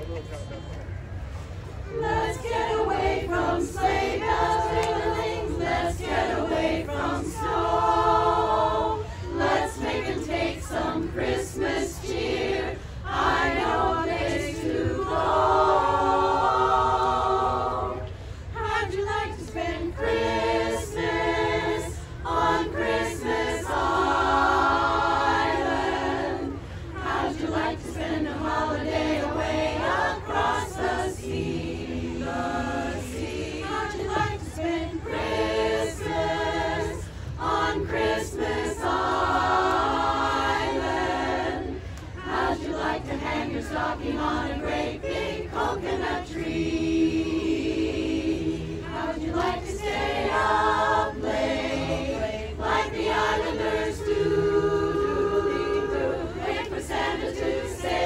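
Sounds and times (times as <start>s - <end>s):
women's chorus singing: 1.8s - 58.0s.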